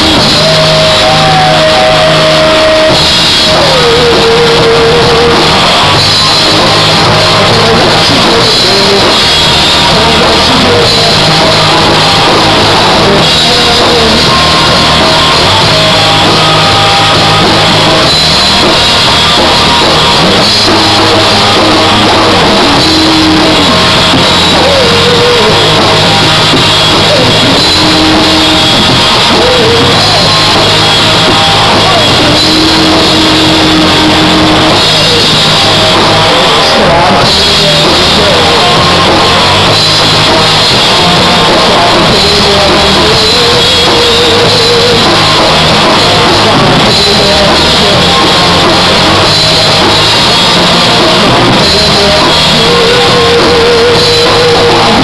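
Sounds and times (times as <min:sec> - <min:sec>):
bass guitar: 0:00.0 - 0:55.0
drum kit: 0:00.0 - 0:55.0
electric guitar: 0:00.0 - 0:55.0
man singing into a microphone: 0:00.0 - 0:55.0.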